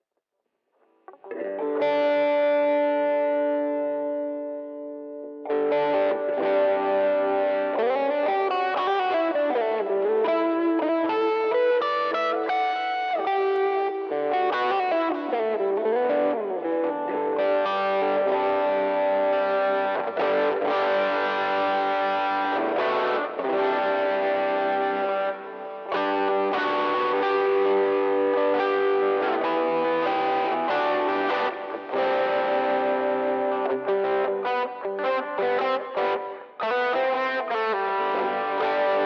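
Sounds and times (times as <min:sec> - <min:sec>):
distorted electric guitar: 0:00.8 - 0:39.0
strummed guitar chords: 0:01.1 - 0:39.0.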